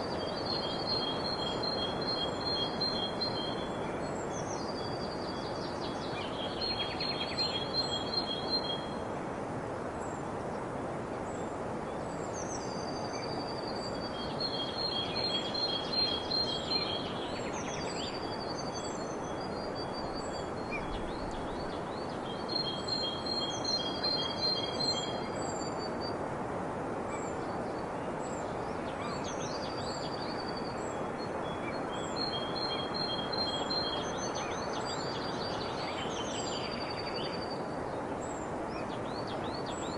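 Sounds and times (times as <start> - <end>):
songbirds singing: 0.0 - 26.4, 27.0 - 39.9
background hiss: 0.0 - 39.9.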